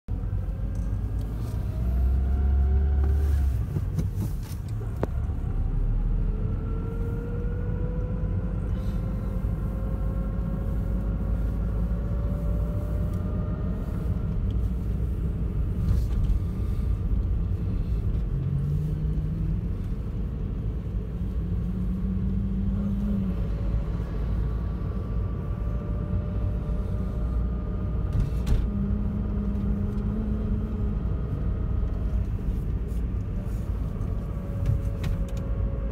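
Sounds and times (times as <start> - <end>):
road rumble: 0.0 - 35.9
car engine: 0.1 - 35.9.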